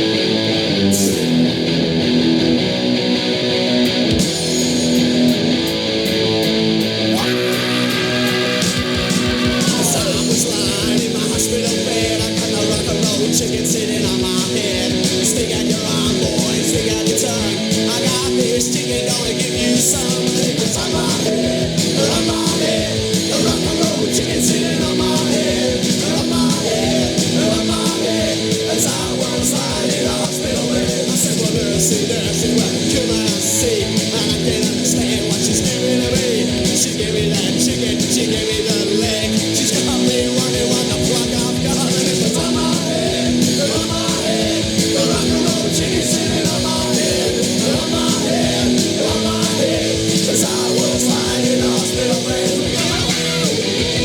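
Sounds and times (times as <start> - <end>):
punk rock band playing: 0.0 - 54.0.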